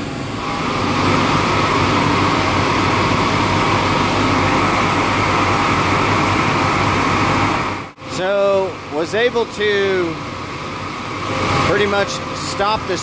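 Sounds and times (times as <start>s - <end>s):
chiller compressor rushing noise: 0.0s - 13.0s
high whine: 0.0s - 13.0s.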